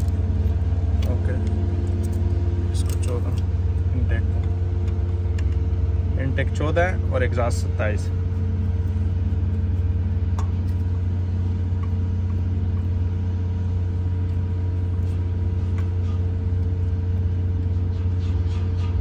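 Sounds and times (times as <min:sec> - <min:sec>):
low machinery drone: 0:00.0 - 0:19.0.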